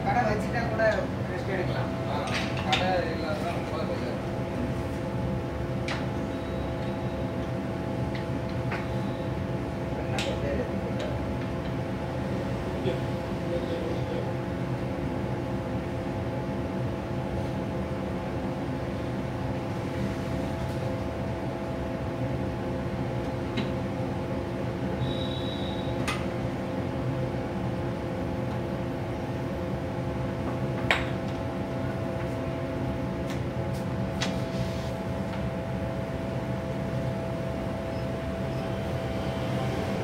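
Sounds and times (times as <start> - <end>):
machine fans and pumps humming: 0.0 - 40.0.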